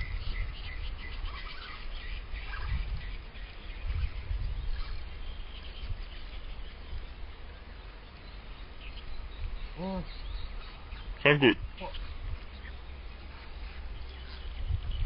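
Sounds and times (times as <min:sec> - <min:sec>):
birds chirping: 0:00.0 - 0:15.0
wind rumbling on microphone: 0:00.0 - 0:15.0.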